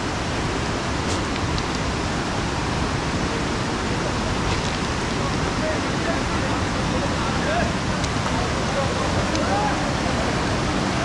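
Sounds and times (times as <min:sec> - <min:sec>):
river rushing over boulders: 0:00.0 - 0:11.0.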